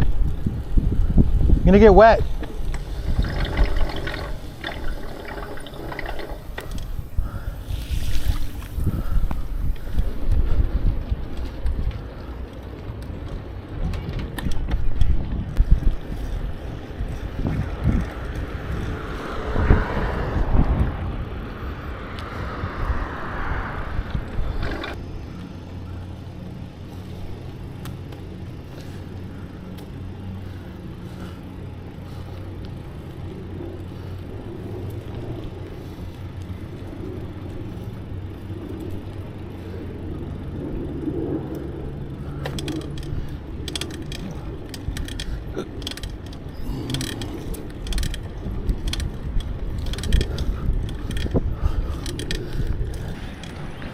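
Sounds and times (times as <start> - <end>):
bicycle mechanism clicking and rattling: 0.0 - 53.9
wind rumble on microphone: 0.0 - 53.9.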